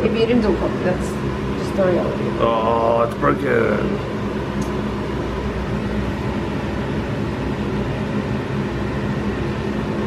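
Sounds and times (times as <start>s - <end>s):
fan whirring hum: 0.0s - 10.0s.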